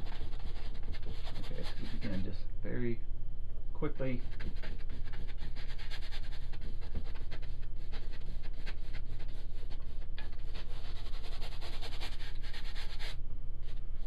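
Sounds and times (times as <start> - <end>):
paintbrush scrubbing on canvas: 0.0 - 2.3, 4.1 - 13.8.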